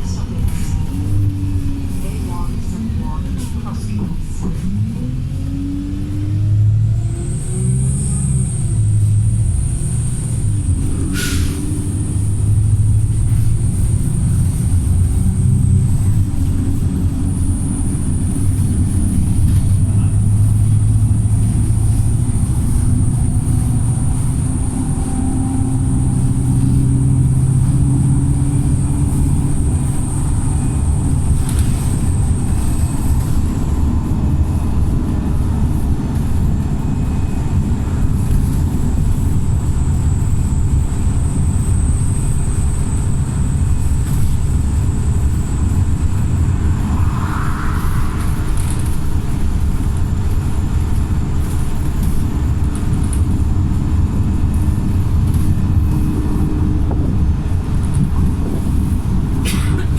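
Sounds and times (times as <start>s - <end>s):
bus diesel engine working hard: 0.0s - 59.9s
steady high whine: 6.6s - 59.6s.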